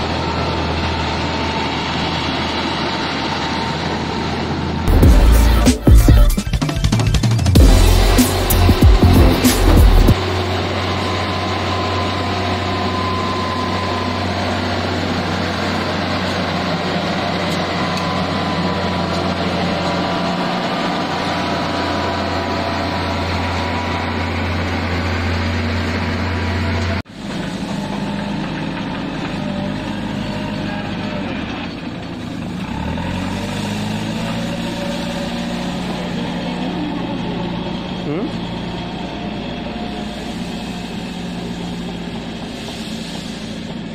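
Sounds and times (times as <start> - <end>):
engine speed rising and falling: 0.0 - 43.8
heavy diesel engine running: 0.0 - 43.9.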